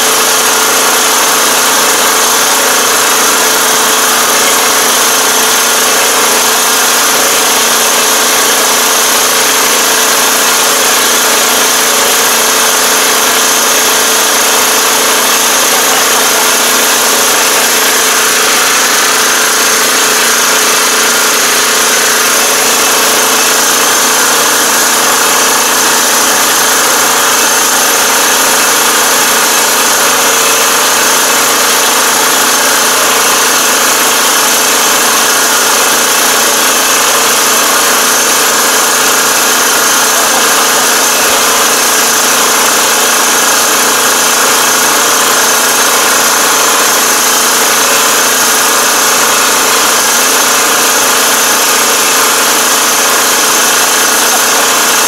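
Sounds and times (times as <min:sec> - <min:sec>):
rice transplanter engine running: 0:00.0 - 0:55.0.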